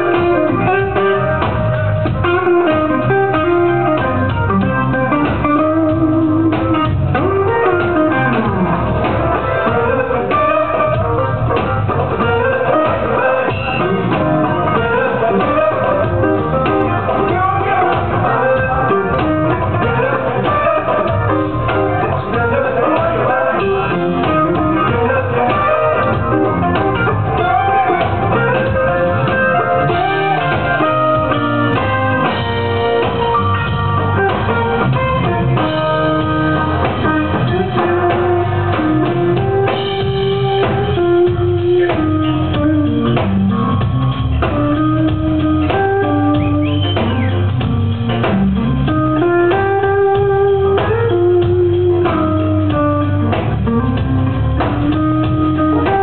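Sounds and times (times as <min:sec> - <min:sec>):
bass guitar: 0:00.0 - 0:56.0
drum kit: 0:00.0 - 0:56.0
electric guitar lead with bent notes: 0:00.0 - 0:56.0
keyboards: 0:00.0 - 0:56.0.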